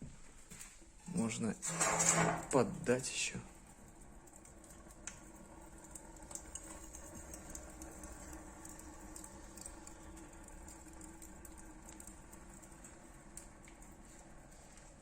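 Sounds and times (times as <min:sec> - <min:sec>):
fire crackling: 0:00.5 - 0:15.0
fire low rumble: 0:01.0 - 0:15.0.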